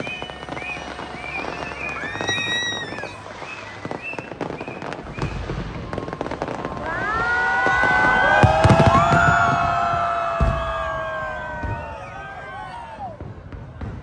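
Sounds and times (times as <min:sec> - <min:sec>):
fireworks booming: 0:00.0 - 0:14.0
fireworks crackling: 0:00.0 - 0:14.0
rising firework whistles: 0:00.0 - 0:14.0.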